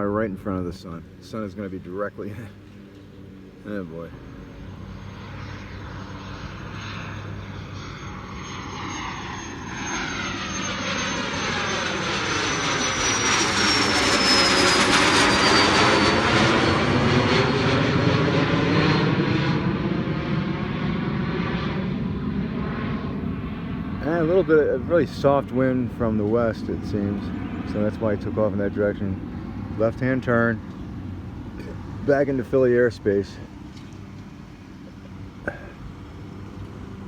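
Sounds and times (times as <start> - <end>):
high jet engine whine: 0.0 - 37.0
jet aircraft passing: 0.0 - 37.0.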